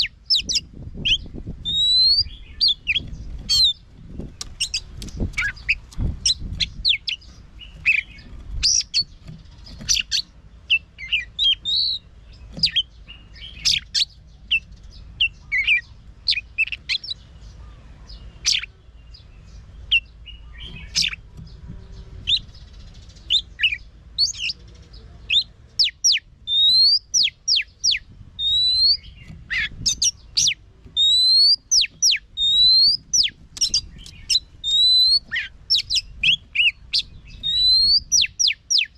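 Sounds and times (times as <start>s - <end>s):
bird singing whistled song: 0.0s - 38.9s.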